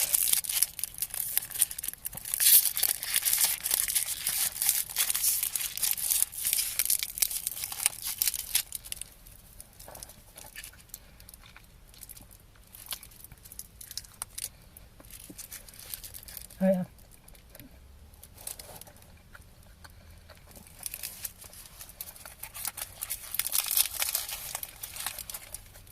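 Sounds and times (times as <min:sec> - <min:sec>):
cellophane wrapper crackling: 0:00.0 - 0:17.4, 0:20.5 - 0:25.9.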